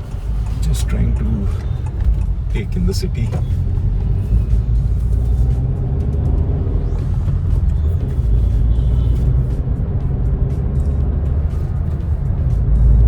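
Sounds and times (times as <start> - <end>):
low rumble of car cabin: 0.0 - 13.0.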